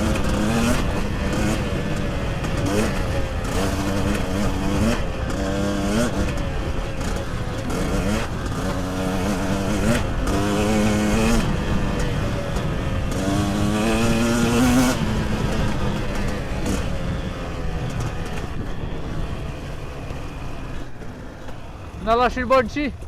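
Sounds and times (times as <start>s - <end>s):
two-stroke motorcycle engine revving: 0.0s - 23.0s.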